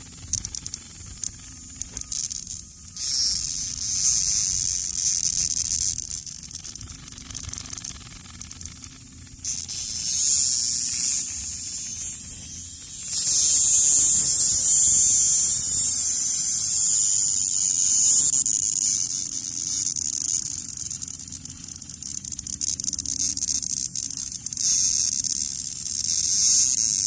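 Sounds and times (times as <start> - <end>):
cicada distress buzz: 0.0 - 27.0.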